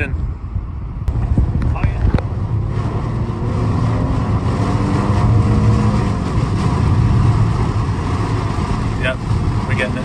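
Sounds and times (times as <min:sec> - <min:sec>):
low rumble: 0:00.2 - 0:10.0
heavy rain lashing a car: 0:01.2 - 0:10.0.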